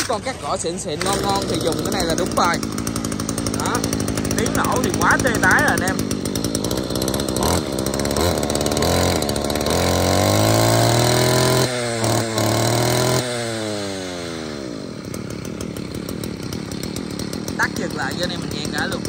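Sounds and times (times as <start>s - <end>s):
brush cutter engine revving: 0.0s - 19.0s.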